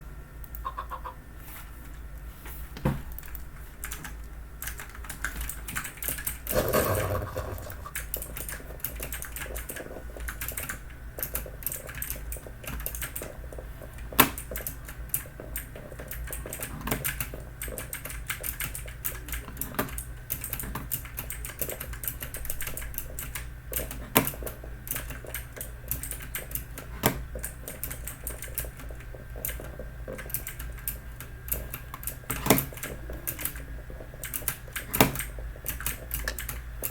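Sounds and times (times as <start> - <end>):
mechanical keyboard typing: 3.2 - 13.4, 14.2 - 36.9.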